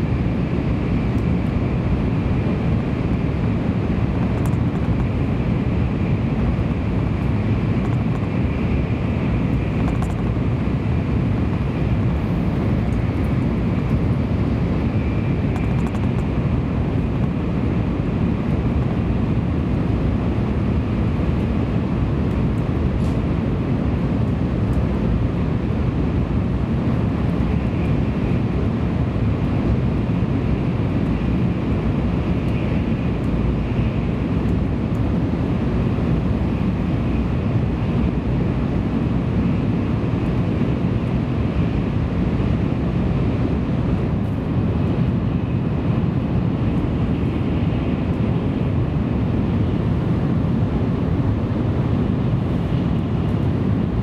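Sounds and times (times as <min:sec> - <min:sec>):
faint steady whine: 0:00.0 - 0:54.0
train rumble and rush: 0:00.0 - 0:54.0.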